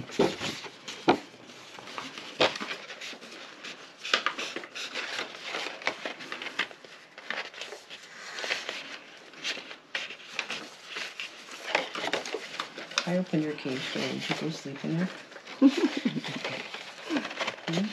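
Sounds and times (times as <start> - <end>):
cardstock rustling and scraping: 0.0 - 17.9.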